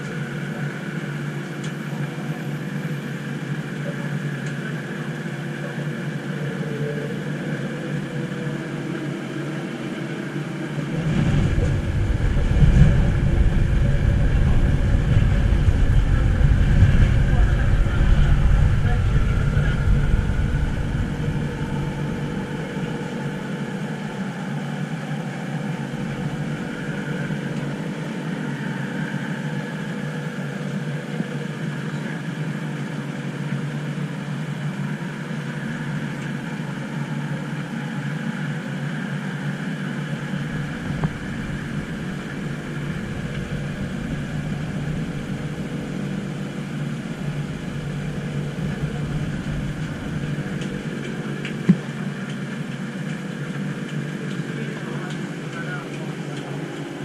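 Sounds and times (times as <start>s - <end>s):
faint wavering whine: 0.0s - 57.0s
motor hum: 0.0s - 57.0s
train running noise: 0.0s - 57.0s.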